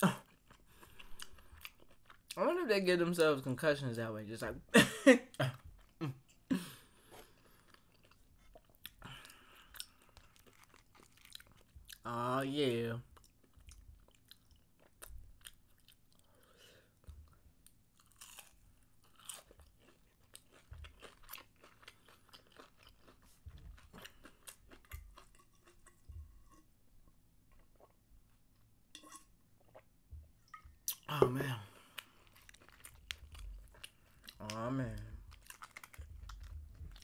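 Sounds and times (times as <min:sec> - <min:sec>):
chewing and crunching food: 0:00.0 - 0:02.4, 0:05.4 - 0:26.7, 0:30.5 - 0:37.0.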